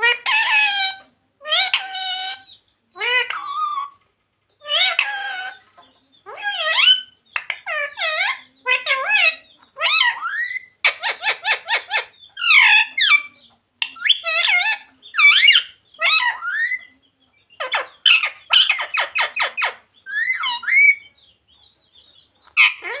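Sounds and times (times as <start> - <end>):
parrot squawking and screeching: 0.0 - 4.0, 4.6 - 16.9, 17.6 - 21.1, 22.5 - 23.0.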